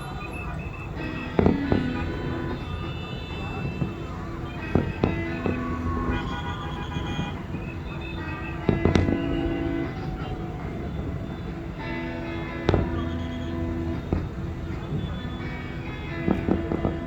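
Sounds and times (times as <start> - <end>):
fireworks bangs: 0.0 - 17.0
music with long held notes: 0.1 - 17.0.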